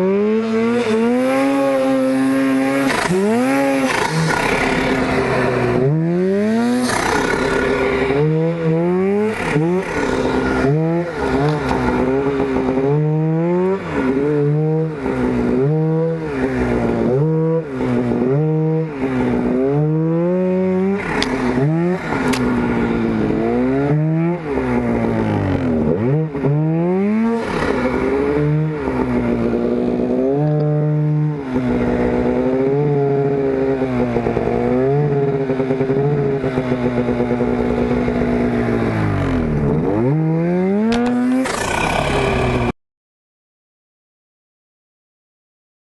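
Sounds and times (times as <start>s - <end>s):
snowmobile engine revving: 0.0s - 42.8s.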